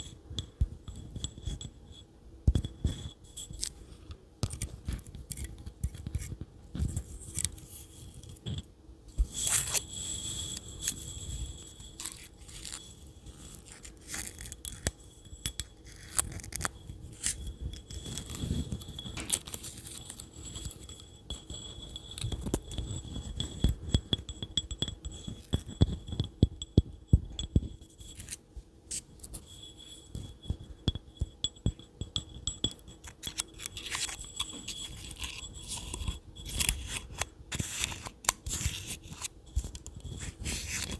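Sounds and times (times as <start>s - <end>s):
tapping and scratching on objects: 0.0s - 40.9s.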